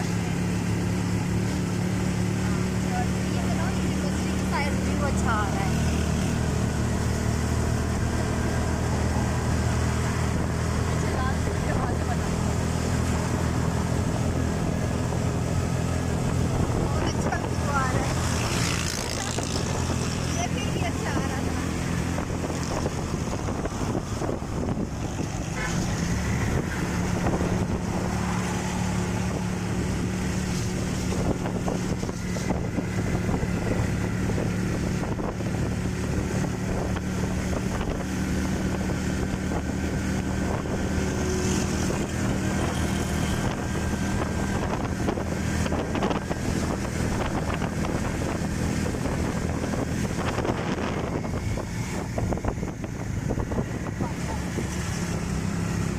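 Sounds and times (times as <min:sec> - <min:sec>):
vehicle engine and road drone: 0:00.0 - 0:55.9.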